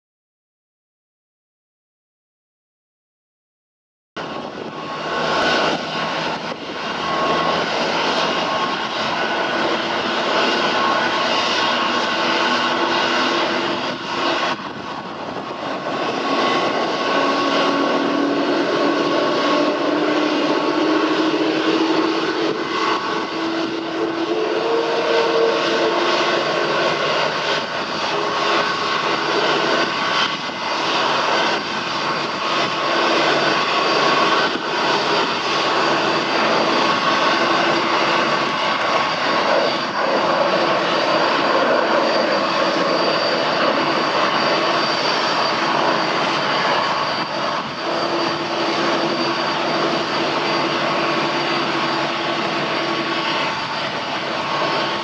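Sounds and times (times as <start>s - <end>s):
jet engine roar and whine: 4.2s - 55.0s.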